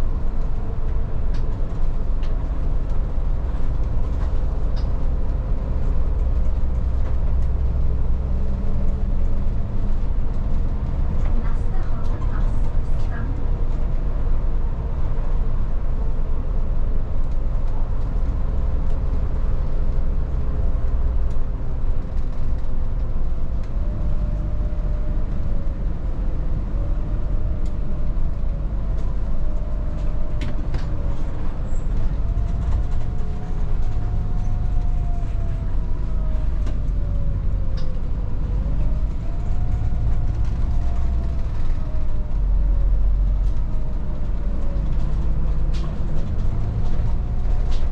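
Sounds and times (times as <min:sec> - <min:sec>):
bus engine rumble from inside: 0:00.0 - 0:47.9.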